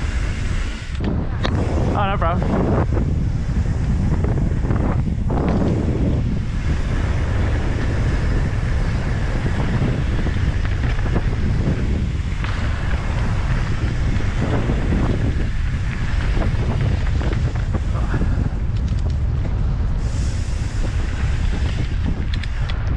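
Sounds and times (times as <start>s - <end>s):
bike rattling over ground: 0.0s - 22.9s
wind buffeting microphone: 0.0s - 22.9s.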